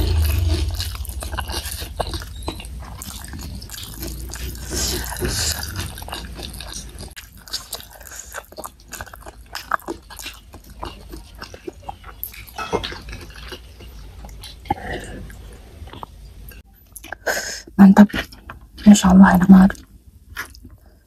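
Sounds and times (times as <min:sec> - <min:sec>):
chewing and wet mouth sounds: 0:00.0 - 0:17.3, 0:18.0 - 0:21.0.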